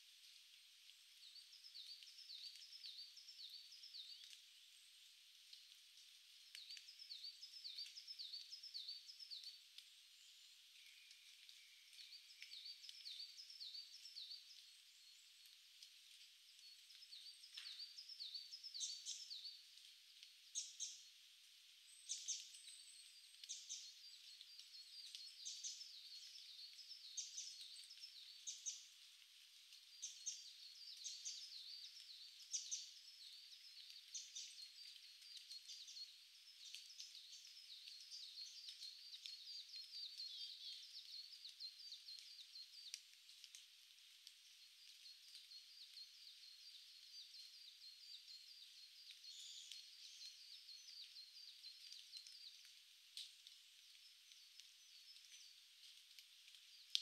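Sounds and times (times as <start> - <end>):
small birds calling: 1.1 - 5.1, 6.0 - 21.1, 21.8 - 57.0.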